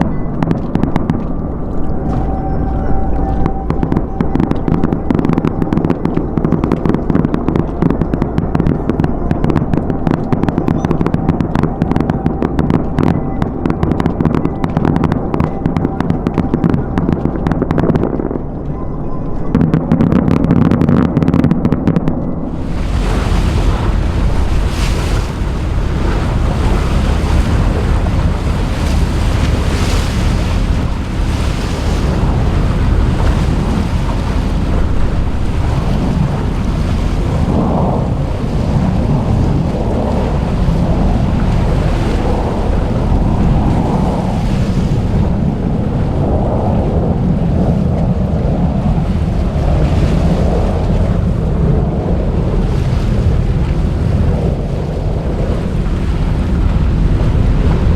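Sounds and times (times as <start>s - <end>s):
wind and water rushing: 0.0s - 18.6s, 19.6s - 57.9s
wind buffeting microphone: 0.0s - 57.9s.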